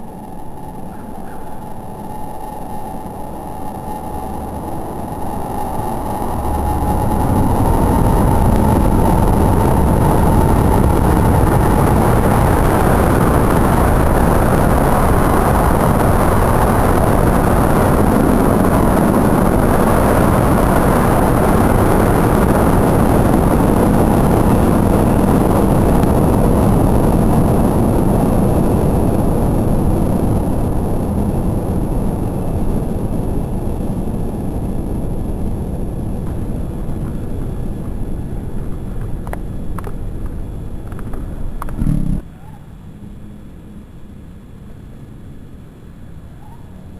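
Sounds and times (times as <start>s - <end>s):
faint high whine: 0.0s - 46.9s.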